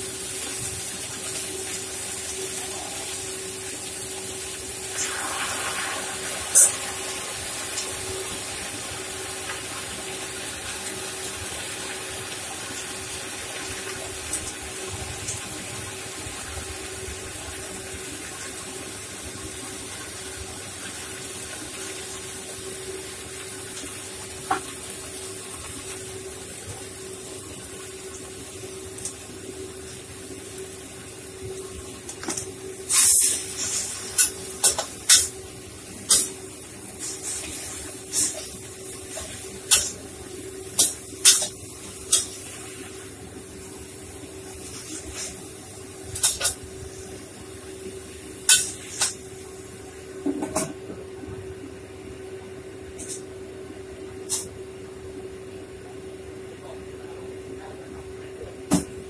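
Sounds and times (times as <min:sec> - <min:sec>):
spinach sizzling in a wok: 0:00.0 - 0:50.2.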